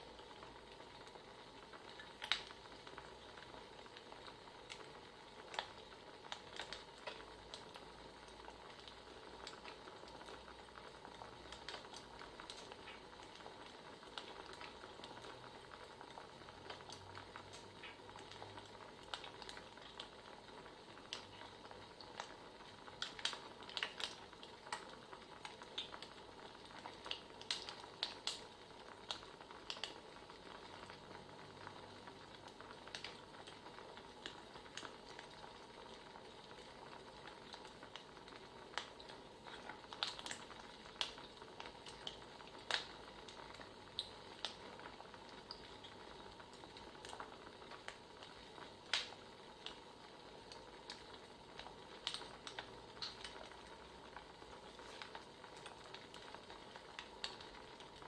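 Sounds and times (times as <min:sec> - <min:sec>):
fire popping and snapping: 0:00.0 - 0:58.0
wood fire crackling: 0:00.0 - 0:58.0.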